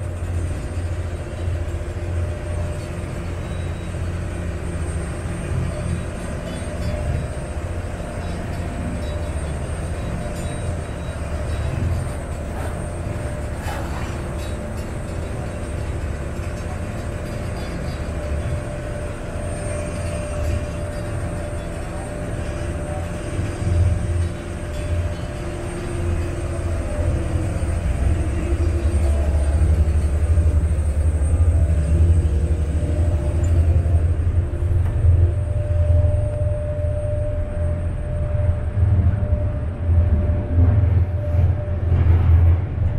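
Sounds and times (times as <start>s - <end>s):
boat engine droning: 0.0s - 42.9s.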